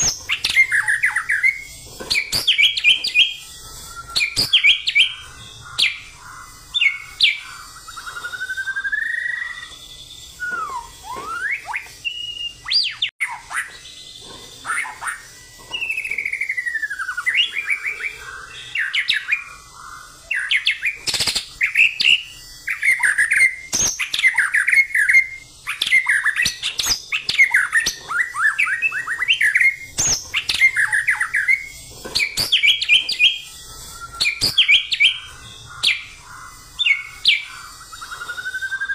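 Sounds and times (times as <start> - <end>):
songbird singing whistled phrases: 0.0 - 14.0, 14.6 - 38.9.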